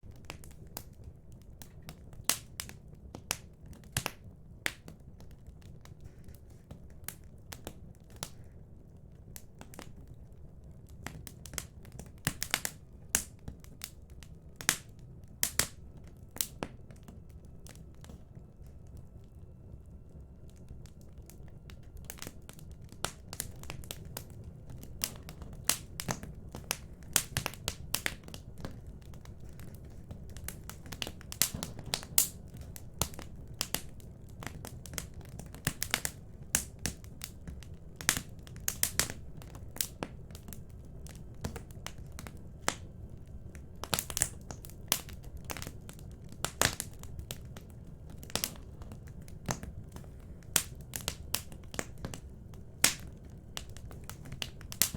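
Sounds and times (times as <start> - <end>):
burning logs rumbling: 0.0 - 54.9
fire crackling with pops: 0.0 - 54.9.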